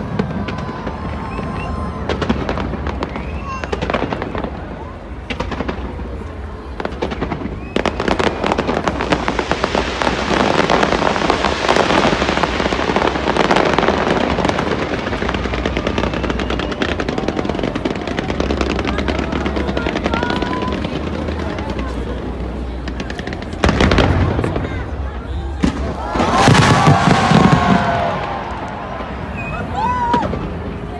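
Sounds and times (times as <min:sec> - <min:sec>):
fireworks crackling and banging: 0:00.0 - 0:30.9.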